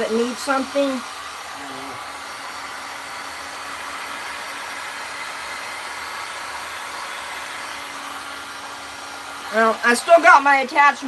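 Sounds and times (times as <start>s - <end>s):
heat gun blowing air: 0.0s - 11.0s.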